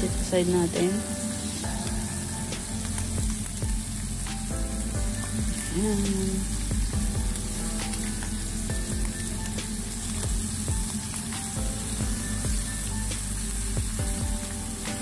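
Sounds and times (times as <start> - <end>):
seafood sizzling in oil: 0.0 - 15.0.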